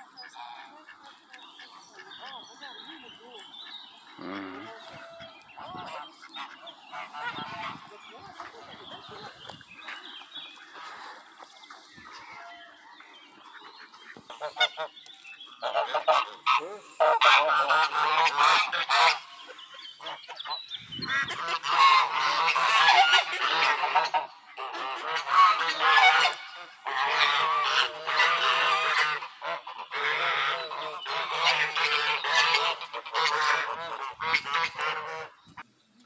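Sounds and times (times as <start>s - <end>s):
geese honking: 0.0s - 35.6s.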